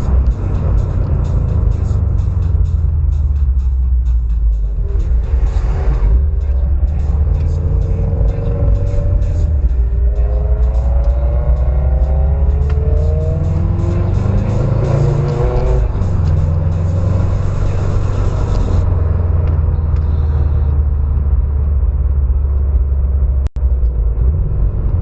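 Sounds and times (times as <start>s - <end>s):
car engines rumbling: 0.0s - 25.0s
engine revving: 0.0s - 25.0s
music: 0.0s - 25.0s.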